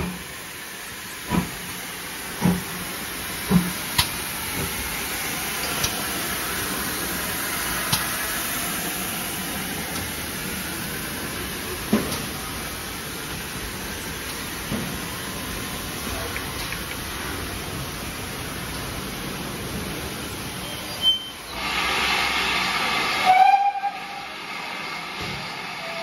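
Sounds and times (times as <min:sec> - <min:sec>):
steam hissing from locomotive: 0:00.0 - 0:26.0.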